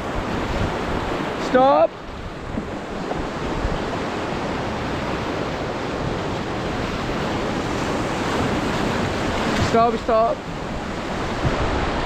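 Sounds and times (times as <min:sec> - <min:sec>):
wind noise on microphone: 0:00.0 - 0:01.4, 0:02.0 - 0:12.0
river water rushing: 0:00.0 - 0:12.0.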